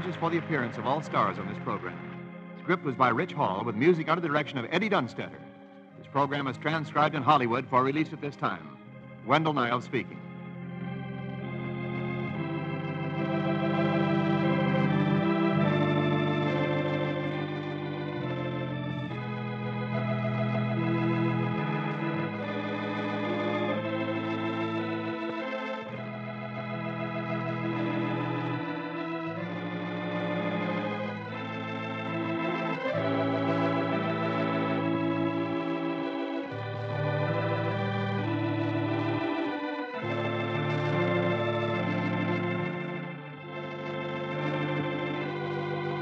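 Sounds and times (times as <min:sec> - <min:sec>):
organ playing slow chords: 0:00.0 - 0:46.0.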